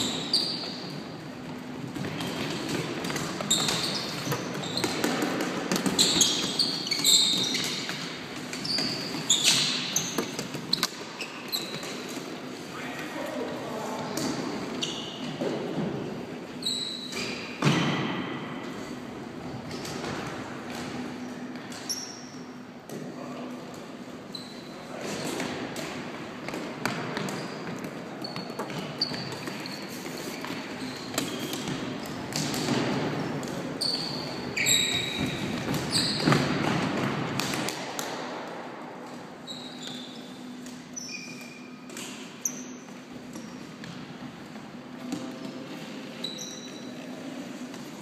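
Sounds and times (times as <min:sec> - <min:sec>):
shoes squeaking on floor: 0:00.0 - 0:12.5, 0:14.3 - 0:22.6, 0:24.2 - 0:25.4, 0:26.4 - 0:37.1, 0:39.1 - 0:44.2, 0:44.8 - 0:48.0.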